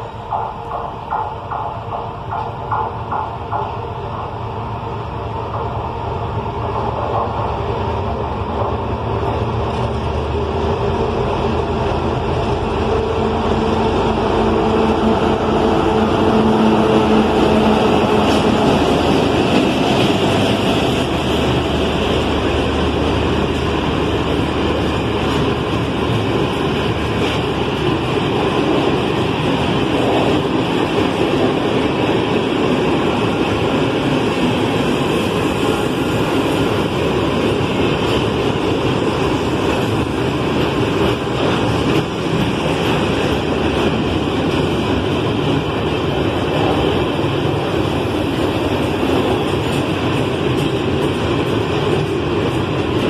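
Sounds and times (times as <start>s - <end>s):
diesel locomotive engine hum: 0.0s - 53.0s
train wheels rumbling on rails: 0.0s - 53.0s.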